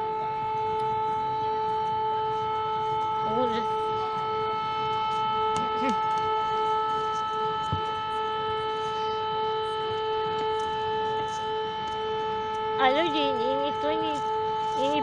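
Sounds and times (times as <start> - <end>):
steady siren tone: 0.0 - 15.0.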